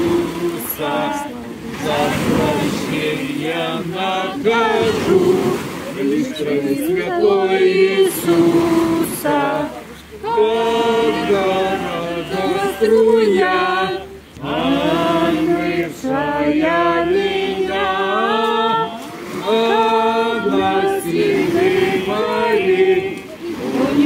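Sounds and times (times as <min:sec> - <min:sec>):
group singing a hymn unaccompanied: 0:00.0 - 0:24.0.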